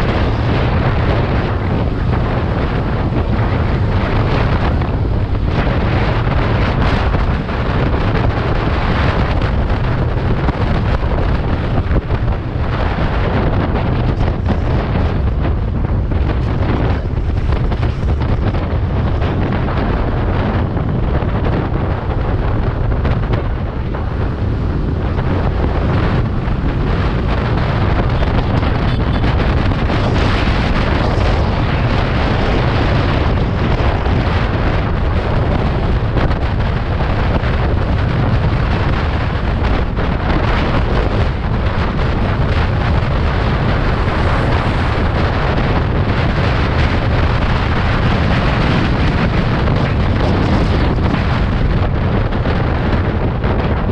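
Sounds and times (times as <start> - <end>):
road and engine rumble: 0.0 - 53.9
wind buffeting microphone: 0.0 - 53.9.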